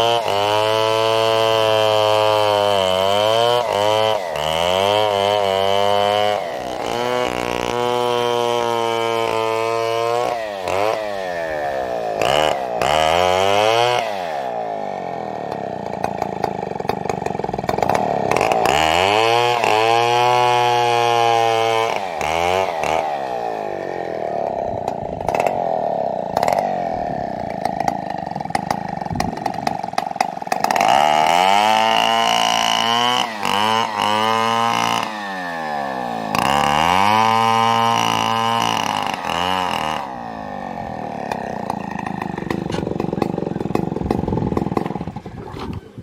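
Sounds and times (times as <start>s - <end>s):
chainsaw cutting log: 0.0s - 46.0s.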